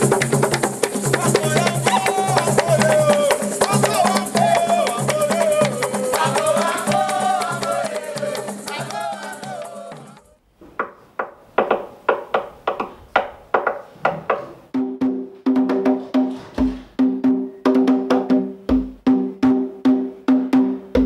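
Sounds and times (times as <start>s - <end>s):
hand drum struck by hands: 0.0s - 10.1s, 10.8s - 21.0s.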